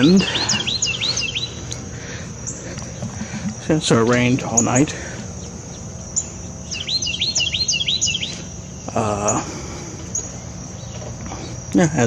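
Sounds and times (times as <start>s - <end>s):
high-pitched insect drone: 0.0s - 12.0s
songbird singing slurred notes: 0.0s - 12.0s.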